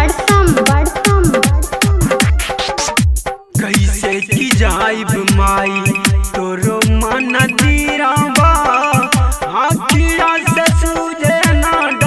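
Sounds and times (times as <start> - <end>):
fast electronic drum beat: 0.0 - 12.0
keyboard synth melody: 0.0 - 12.0.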